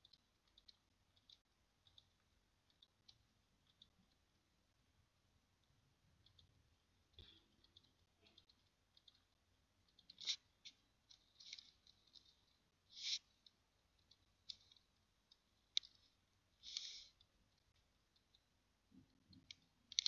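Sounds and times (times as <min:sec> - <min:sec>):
mouse and keyboard clicks: 0:00.0 - 0:04.2, 0:06.2 - 0:18.5, 0:19.2 - 0:20.0.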